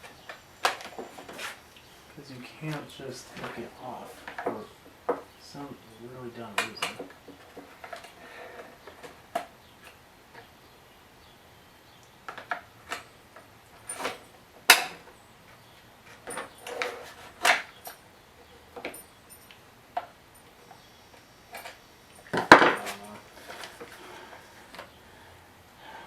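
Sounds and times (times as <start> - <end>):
hand tools clicking and clattering: 0.0 - 5.4, 6.4 - 10.5, 12.3 - 25.0.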